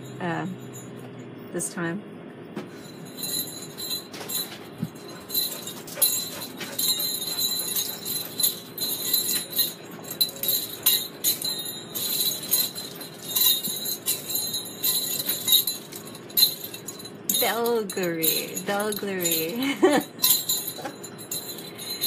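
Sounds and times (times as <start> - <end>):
small bells jingling: 0.0 - 1.1, 2.7 - 22.0.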